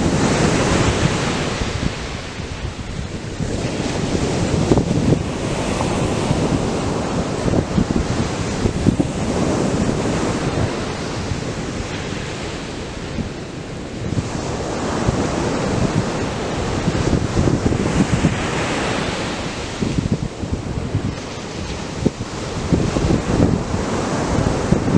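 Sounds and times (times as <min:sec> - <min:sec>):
surf breaking on beach: 0:00.0 - 0:24.9
wind buffeting microphone: 0:00.0 - 0:24.9.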